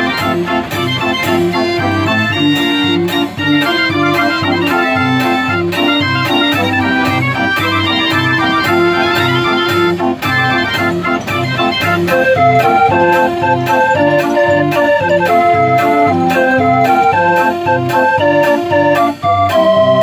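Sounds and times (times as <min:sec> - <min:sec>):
fair organ playing a tune: 0:00.0 - 0:20.0.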